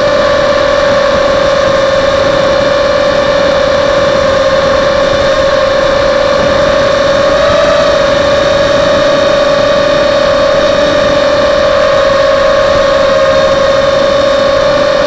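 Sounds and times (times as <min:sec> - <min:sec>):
drone motors whining: 0:00.0 - 0:15.0
rushing air noise: 0:00.0 - 0:15.0.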